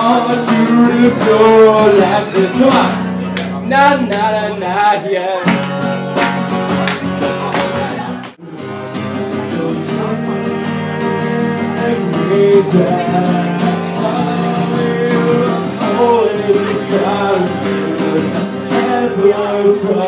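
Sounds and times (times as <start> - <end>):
man singing: 0.0 - 5.8, 6.4 - 20.0
acoustic guitar strumming: 0.0 - 20.0.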